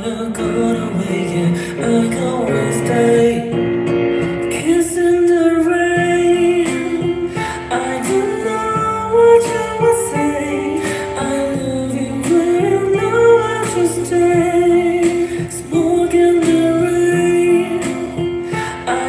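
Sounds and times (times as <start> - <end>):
guitar accompaniment: 0.0 - 19.0
person singing: 0.0 - 19.0.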